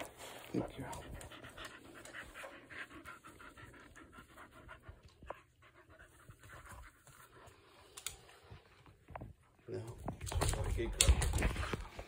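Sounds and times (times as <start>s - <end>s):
dog panting: 0.0s - 9.7s.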